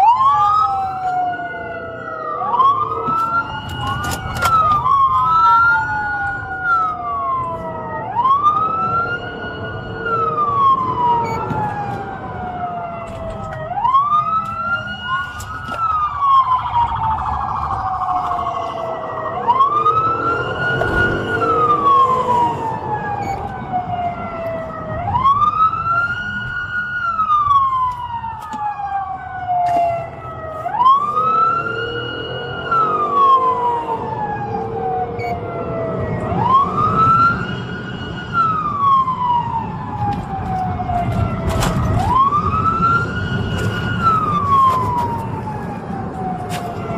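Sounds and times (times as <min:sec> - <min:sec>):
car engine and road noise: 0:00.0 - 0:46.9
police siren wailing: 0:00.0 - 0:46.9.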